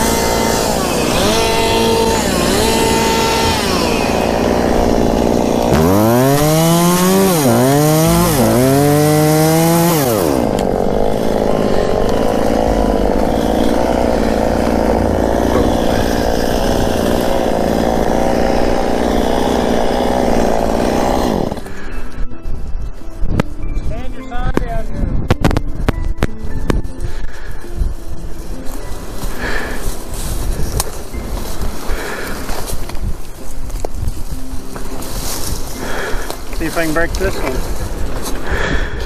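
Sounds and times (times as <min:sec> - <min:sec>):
chainsaw cutting: 0:00.0 - 0:22.1, 0:28.6 - 0:39.0.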